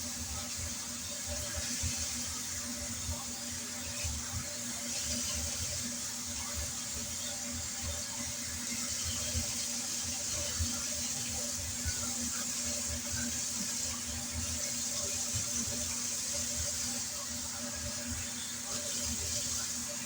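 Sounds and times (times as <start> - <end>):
tap water running into sink: 0.0 - 20.0.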